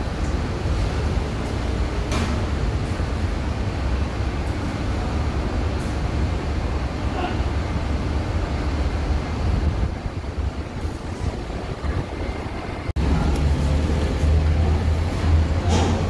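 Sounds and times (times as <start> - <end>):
ferry engines rumbling: 0.0 - 16.0.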